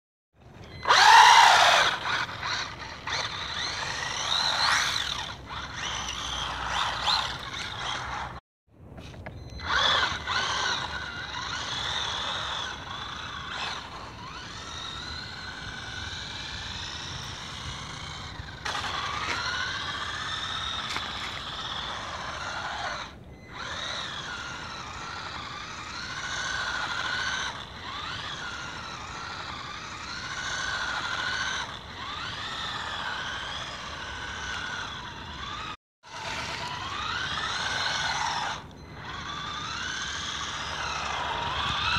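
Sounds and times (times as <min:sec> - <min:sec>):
electric motor whining: 0:00.5 - 0:08.4, 0:09.1 - 0:41.9.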